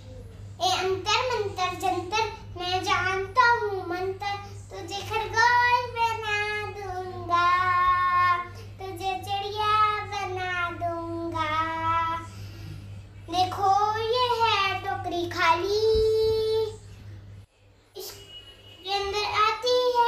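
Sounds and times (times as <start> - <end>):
girl singing: 0.6 - 12.4, 13.3 - 16.8, 18.8 - 20.0.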